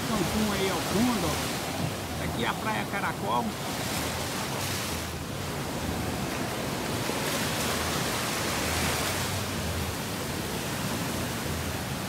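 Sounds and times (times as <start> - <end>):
low wind rumble on microphone: 0.0 - 12.0
sea waves washing: 0.0 - 12.0.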